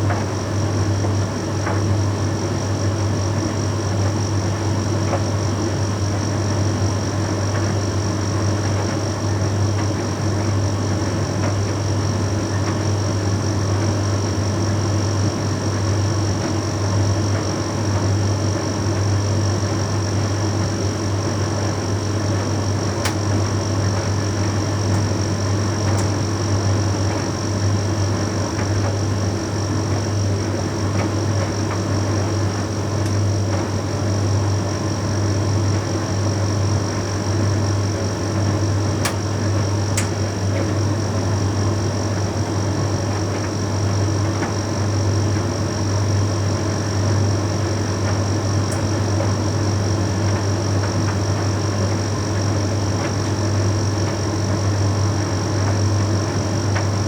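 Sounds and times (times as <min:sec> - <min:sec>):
tumble dryer humming: 0:00.0 - 0:57.0.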